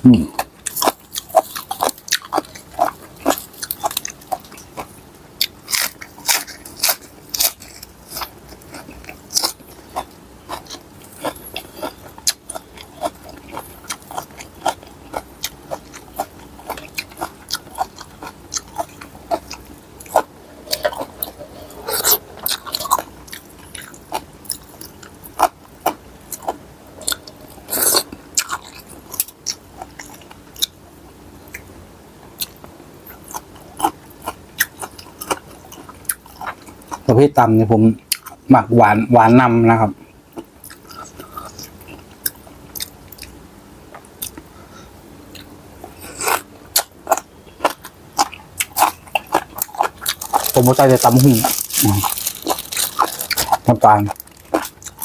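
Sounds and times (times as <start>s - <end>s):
close-up chewing and crunching: 0.1s - 30.8s, 32.4s - 37.4s, 38.0s - 38.5s, 40.0s - 44.5s, 45.3s - 55.0s.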